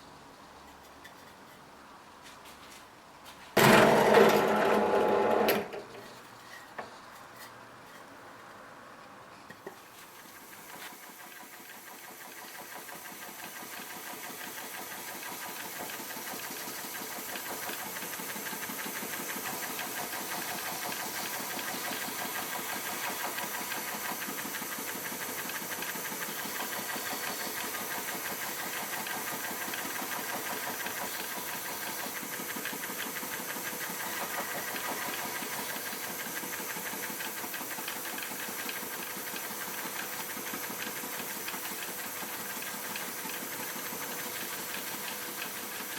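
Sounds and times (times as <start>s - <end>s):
woodworking power tool pulsing: 3.6s - 6.0s, 10.4s - 45.9s.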